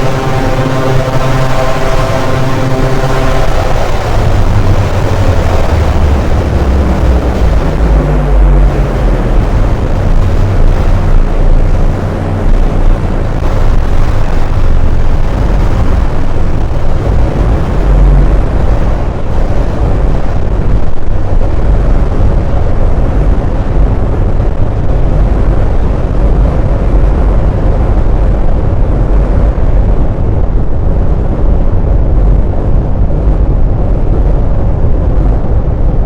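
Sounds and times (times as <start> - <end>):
faint hum: 0.0 - 36.0
heavy low machine rumble: 0.0 - 36.0.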